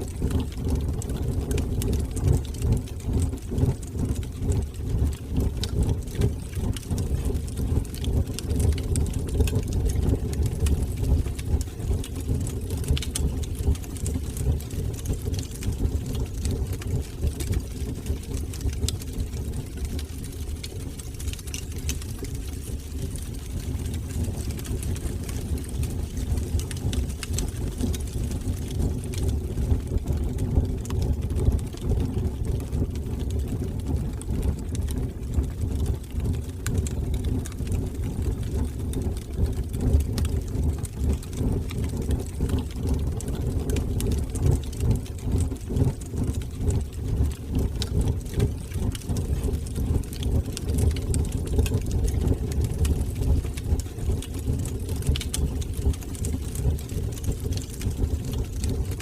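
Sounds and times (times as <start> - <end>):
fire crackles and pops: 0.0 - 59.0
fire rumbling: 0.0 - 59.0.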